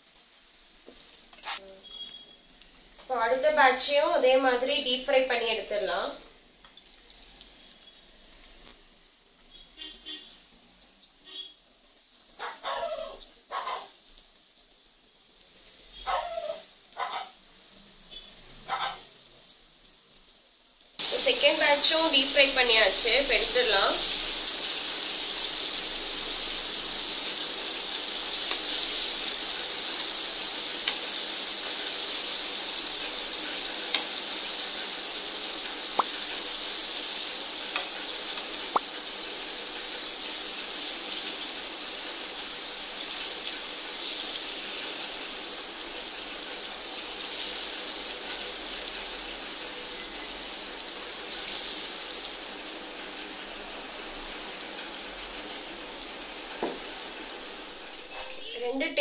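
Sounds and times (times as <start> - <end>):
hot oil sizzling: 0.0 - 59.0.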